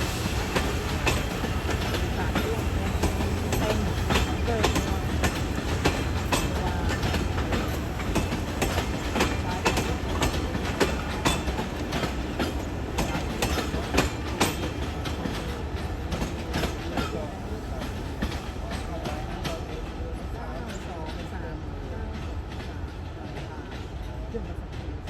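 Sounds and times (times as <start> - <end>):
train low rumble: 0.0 - 25.0
train wheels clacking on rails: 0.0 - 25.0.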